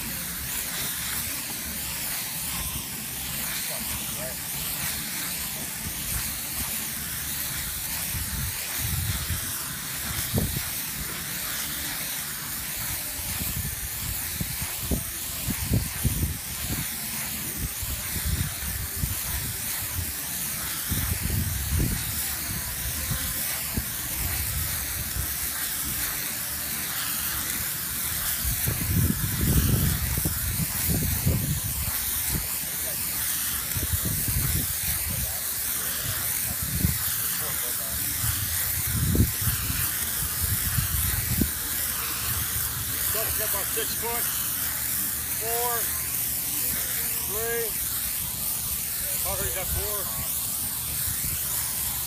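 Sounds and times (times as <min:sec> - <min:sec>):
adhesive spray hissing: 0:00.0 - 0:52.0.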